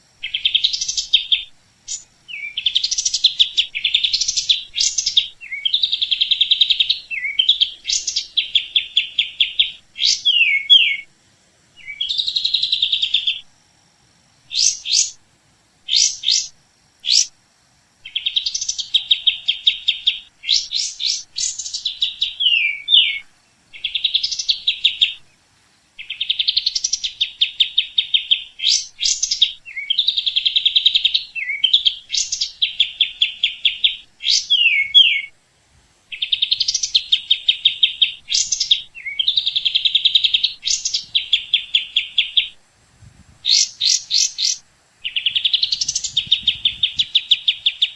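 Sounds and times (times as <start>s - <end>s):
songbird singing trilled phrases: 0.0s - 11.1s, 11.8s - 13.5s, 14.4s - 15.2s, 15.9s - 17.4s, 18.0s - 25.4s, 26.0s - 35.4s, 36.1s - 42.6s, 43.4s - 47.9s.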